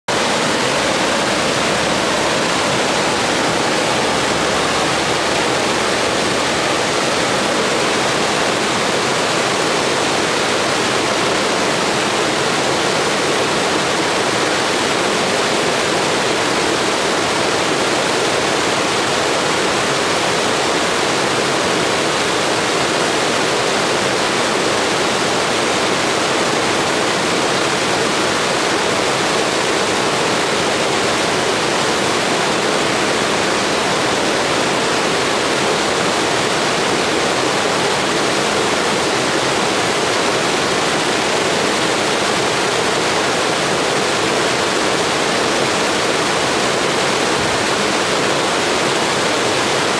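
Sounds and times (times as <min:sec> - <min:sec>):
stream rushing over boulders: 0:00.1 - 0:49.9.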